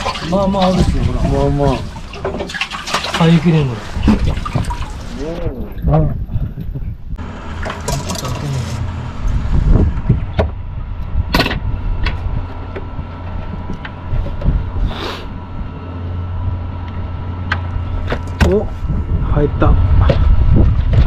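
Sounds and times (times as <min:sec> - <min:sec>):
boat engine idling: 0:00.0 - 0:20.6.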